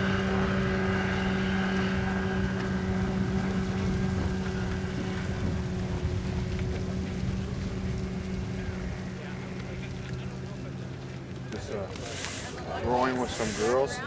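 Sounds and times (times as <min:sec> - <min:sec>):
outboard engine running: 0:00.0 - 0:14.0
wind rumbling on microphone: 0:00.0 - 0:14.0.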